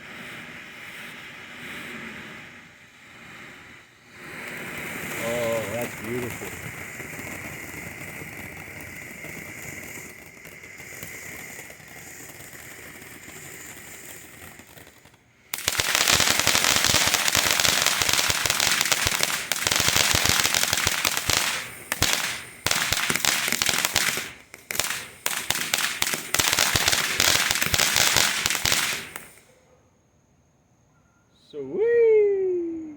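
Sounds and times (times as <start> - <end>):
firework crackling and popping: 0.0 - 29.5
firework fountain hissing: 0.0 - 29.5.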